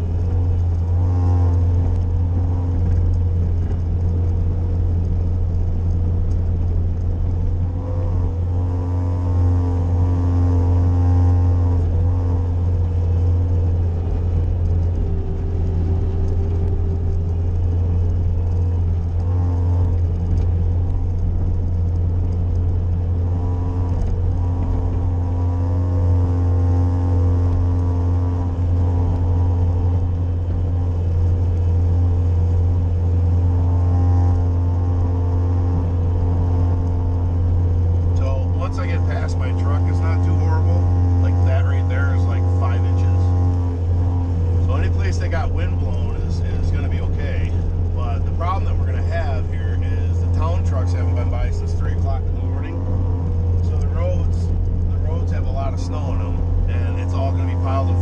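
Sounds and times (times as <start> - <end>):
loader engine running: 0.0 - 58.0.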